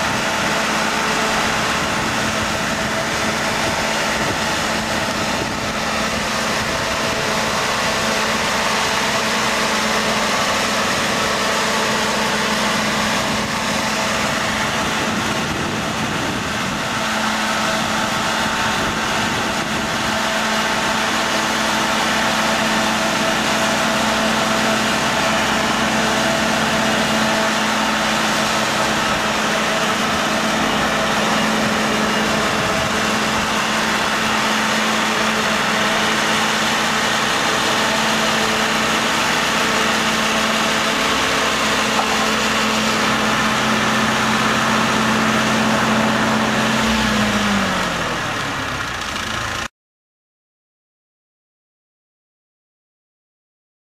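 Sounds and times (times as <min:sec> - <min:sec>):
engine running steadily: 0:00.0 - 0:49.7.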